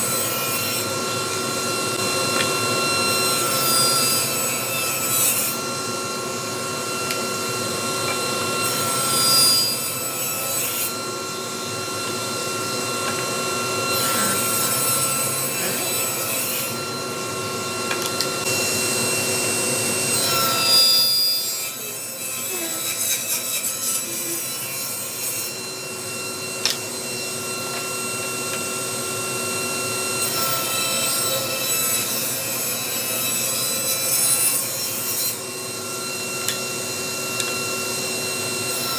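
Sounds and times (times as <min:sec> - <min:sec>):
power saw cutting wood: 0:00.0 - 0:38.9.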